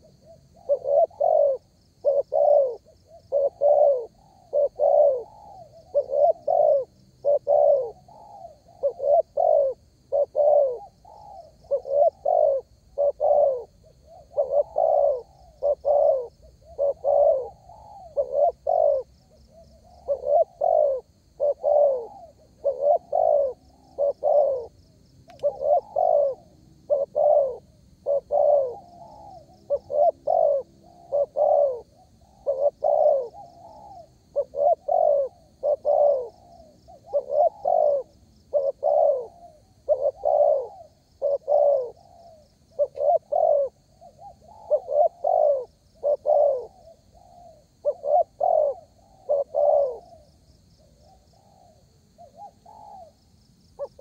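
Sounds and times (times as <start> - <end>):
dove cooing: 0.0 - 53.2, 53.8 - 54.0.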